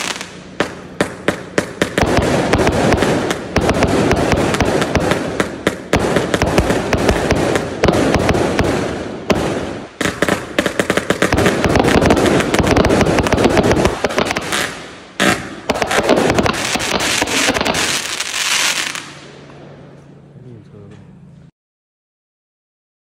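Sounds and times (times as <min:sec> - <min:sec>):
fireworks barrage: 0:00.0 - 0:19.5.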